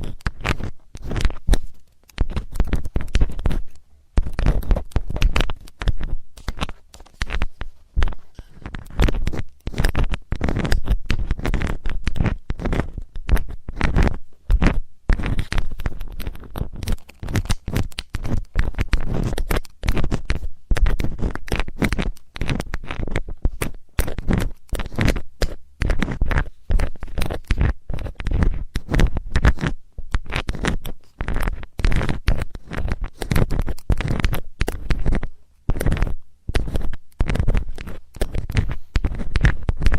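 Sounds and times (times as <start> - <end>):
scratching and rubbing on microphone: 0.0 - 39.9.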